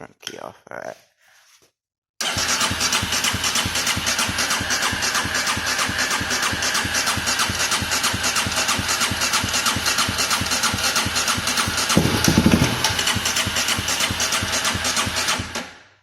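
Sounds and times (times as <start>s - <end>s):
engine cranking on starter: 2.2s - 15.7s.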